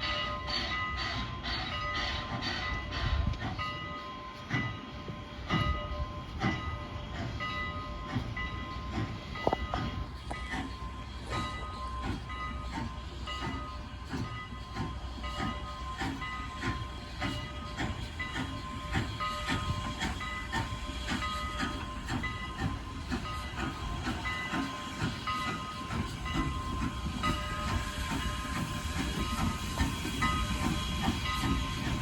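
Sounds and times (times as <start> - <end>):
rhythmic clicks: 0.0 - 32.0
train running: 0.0 - 32.0.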